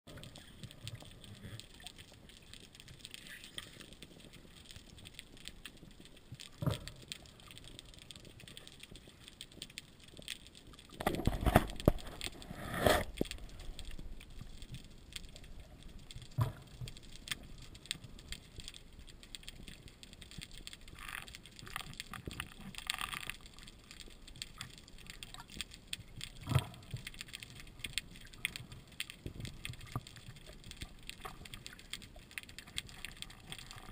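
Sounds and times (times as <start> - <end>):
speargun clicks and knocks underwater: 0.1 - 33.9.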